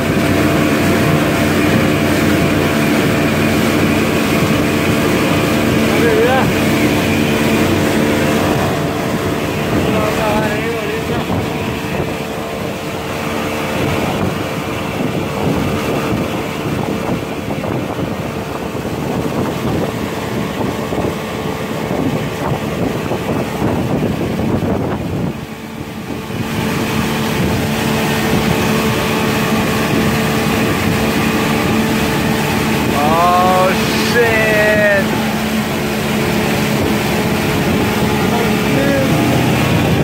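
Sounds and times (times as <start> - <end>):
outboard motor running: 0.0 - 40.0
water splashing: 0.0 - 40.0
wind on microphone: 0.0 - 40.0.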